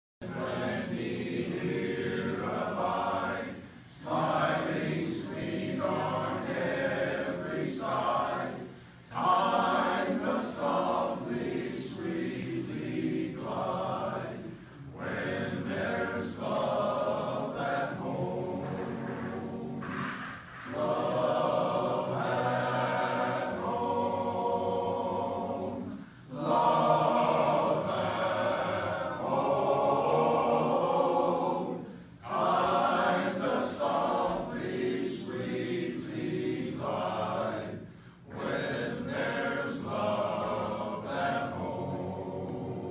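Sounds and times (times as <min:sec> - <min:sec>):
men's chorus singing a cappella: 0:00.2 - 0:42.9.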